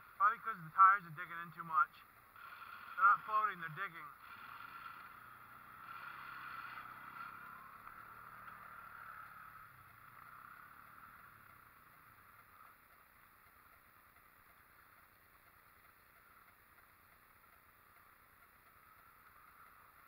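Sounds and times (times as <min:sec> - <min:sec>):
distant engine running: 0:00.0 - 0:20.0.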